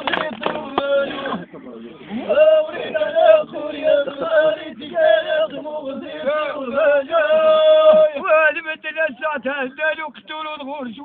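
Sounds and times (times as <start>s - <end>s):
man chanting a poem: 0.0s - 11.0s.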